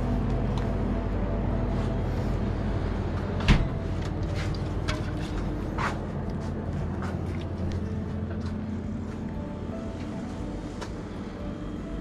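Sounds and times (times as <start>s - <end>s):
fridge low hum: 0.0s - 12.0s.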